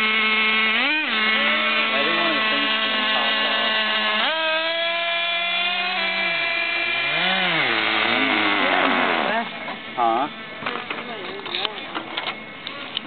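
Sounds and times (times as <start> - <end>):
small engine whining at high revs: 0.0 - 10.5.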